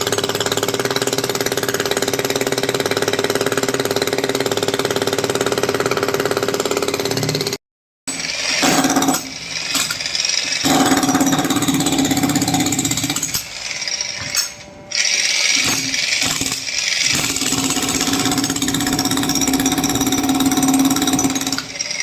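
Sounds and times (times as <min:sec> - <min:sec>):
hammer drill chiselling concrete: 0:00.0 - 0:22.0.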